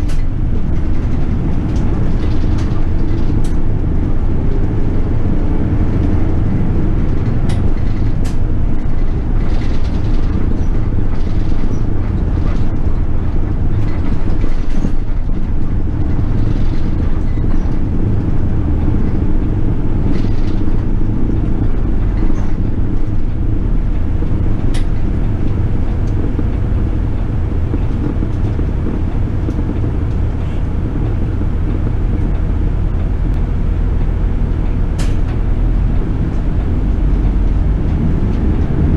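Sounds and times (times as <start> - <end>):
bus engine and road rumble: 0.0 - 38.9
sharp ticks and rattles: 0.0 - 38.9.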